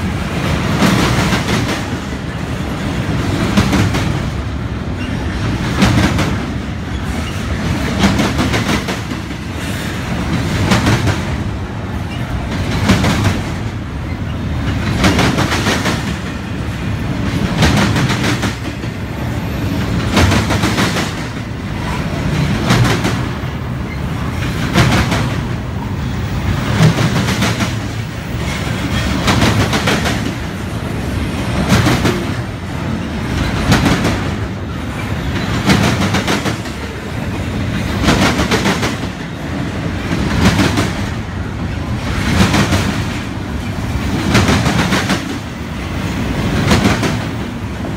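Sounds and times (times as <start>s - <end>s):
train wheels clicking over rail joints: 0.0s - 30.7s, 31.5s - 47.9s
train rumble: 0.0s - 47.9s.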